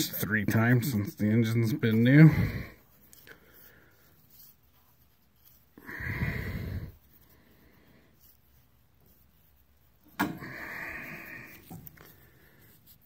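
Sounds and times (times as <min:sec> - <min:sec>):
gloved hand rubbing microphone: 0:00.0 - 0:13.0.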